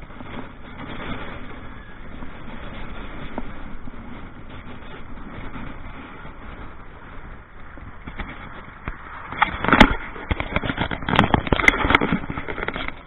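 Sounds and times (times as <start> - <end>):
crackling knocks: 0.0 - 13.0
road noise from towed boat: 0.0 - 13.0
wind on microphone: 0.0 - 13.0.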